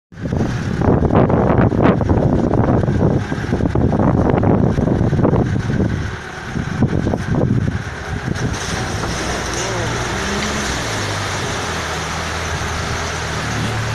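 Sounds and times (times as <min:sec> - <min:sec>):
engine running under load: 0:00.2 - 0:13.9.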